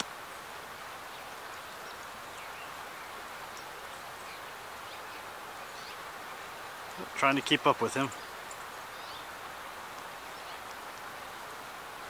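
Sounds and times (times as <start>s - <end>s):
outdoor background hiss: 0.0s - 12.0s
faint bird chirps: 0.2s - 7.2s, 8.0s - 9.4s, 10.2s - 11.5s.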